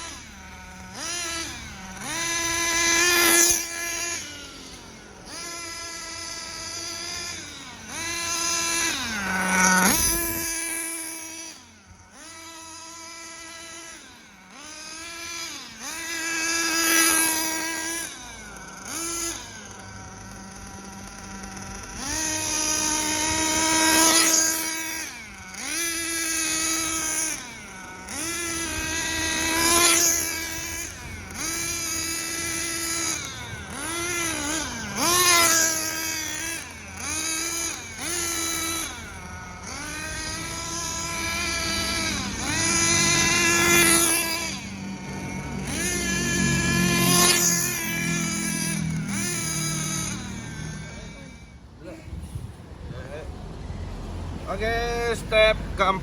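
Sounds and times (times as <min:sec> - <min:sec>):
model engine revving: 0:00.0 - 0:56.0.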